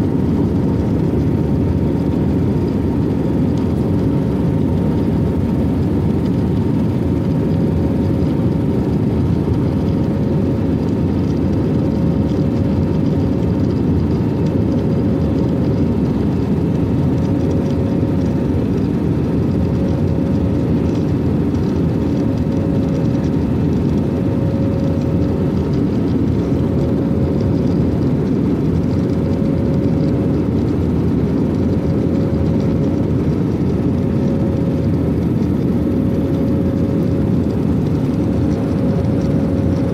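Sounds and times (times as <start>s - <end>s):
airplane engine drone with whine: 0.0s - 39.9s.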